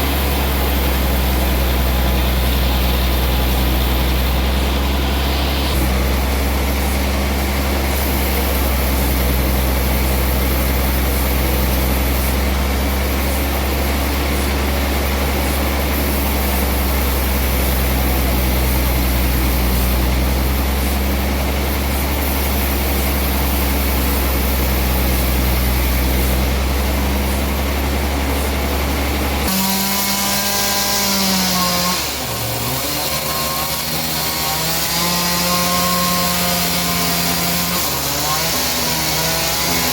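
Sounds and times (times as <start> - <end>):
saw whining through wood: 0.0 - 39.9
sawmill machinery humming: 0.0 - 39.9.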